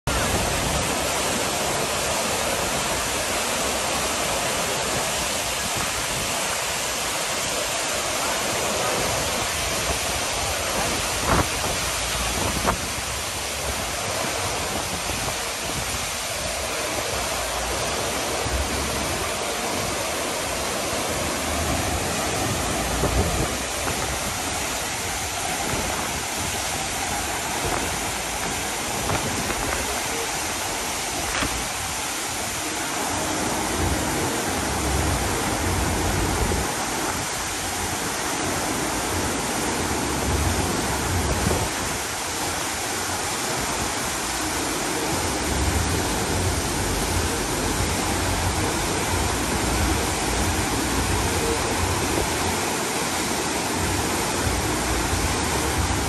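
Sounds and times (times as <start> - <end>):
waterfall splashing into pools: 0.0 - 56.0.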